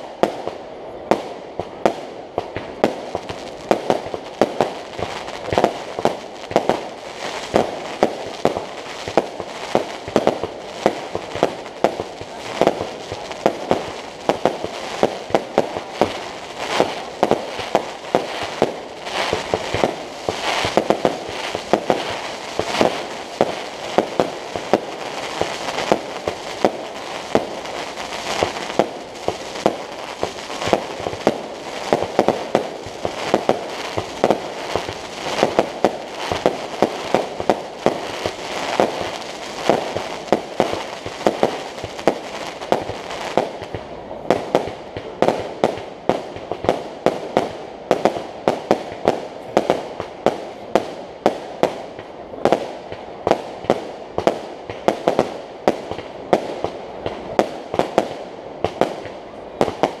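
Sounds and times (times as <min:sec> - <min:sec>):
fireworks bangs: 0:00.0 - 1:00.0
fireworks crackle: 0:00.0 - 1:00.0.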